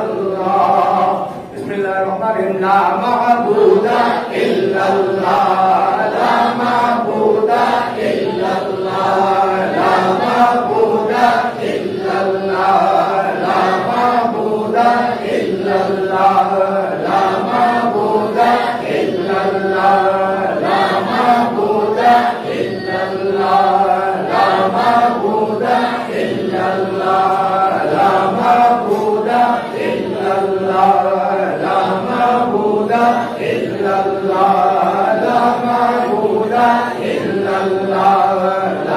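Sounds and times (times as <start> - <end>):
men chanting in unison: 0.0 - 38.9.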